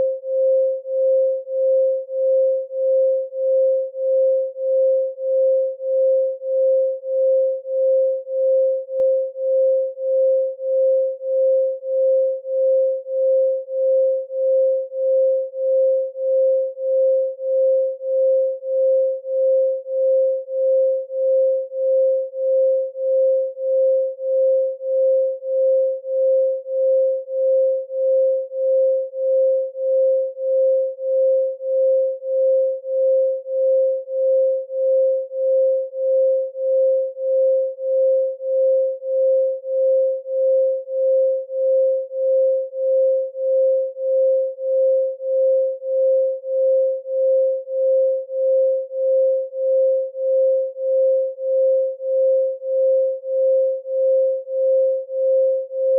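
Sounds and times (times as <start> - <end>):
pulsing sine tone: 0.0 - 55.9.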